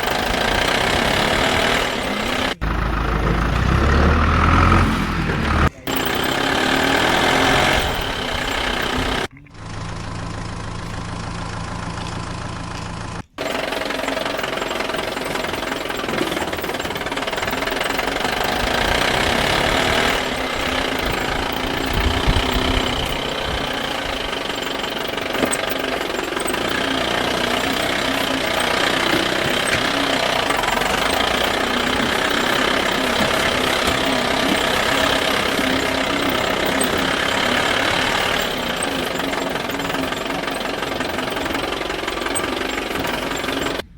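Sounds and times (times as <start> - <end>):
toy vehicle engine rattling: 0.0 - 43.9.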